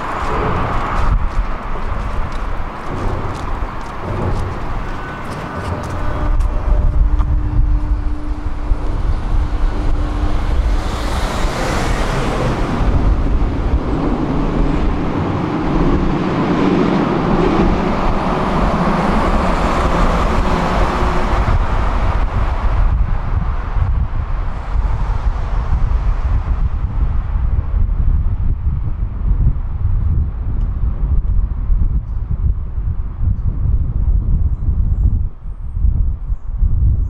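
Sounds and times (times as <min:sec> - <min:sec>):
tram wheels rumbling on rails: 0:00.0 - 0:34.3.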